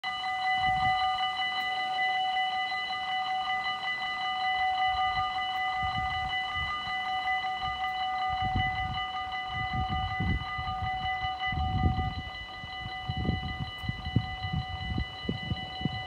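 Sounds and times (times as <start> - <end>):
railroad crossing bell ringing: 0.0 - 16.0.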